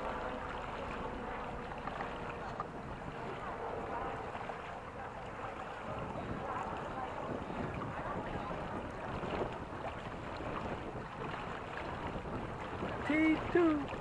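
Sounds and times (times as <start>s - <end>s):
water splashing along hulls: 0.0s - 14.0s
wind buffeting microphone: 0.0s - 14.0s.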